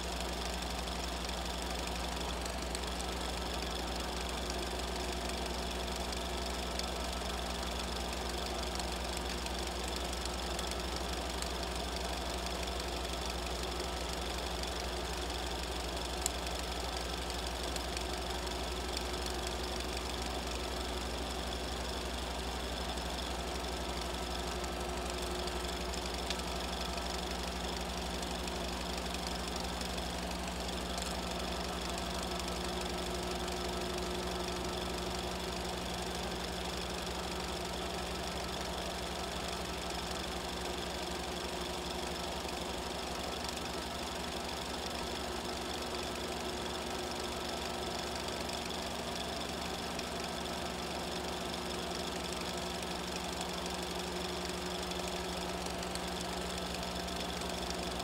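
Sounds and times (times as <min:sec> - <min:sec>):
film projector whirring and clatter: 0:00.0 - 0:58.0.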